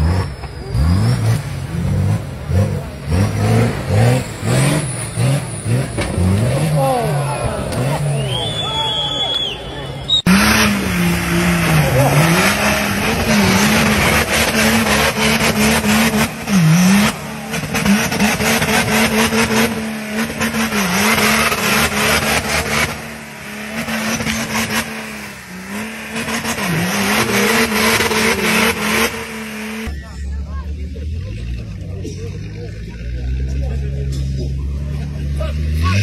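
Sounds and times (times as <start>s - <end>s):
truck engine at high revs: 0.0s - 36.0s
tyres churning through mud: 0.0s - 36.0s.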